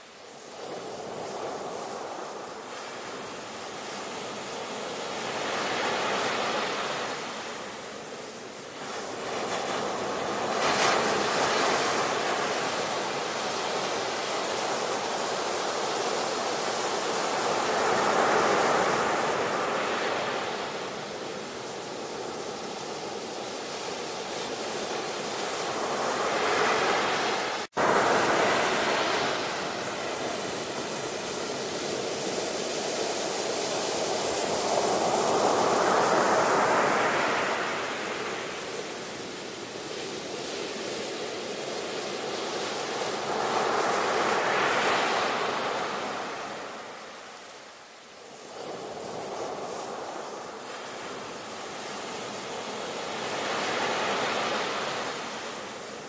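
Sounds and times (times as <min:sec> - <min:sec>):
ocean waves breaking: 0:00.4 - 0:56.0.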